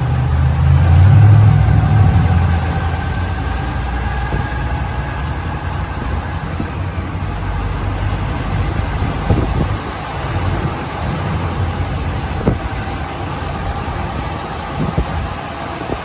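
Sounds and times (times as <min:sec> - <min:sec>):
road noise: 0:00.0 - 0:16.0
truck engine running: 0:00.0 - 0:16.0.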